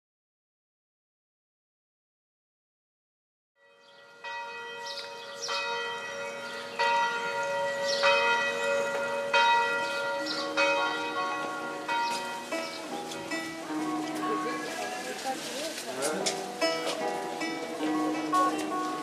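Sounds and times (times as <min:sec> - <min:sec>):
church bells ringing: 0:03.6 - 0:19.0.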